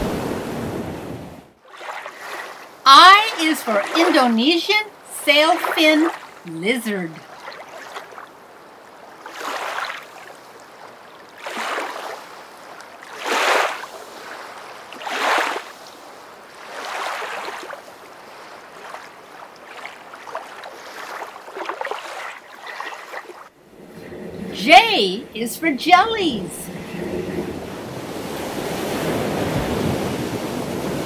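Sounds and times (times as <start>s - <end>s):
water rushing and sloshing: 0.0s - 31.0s.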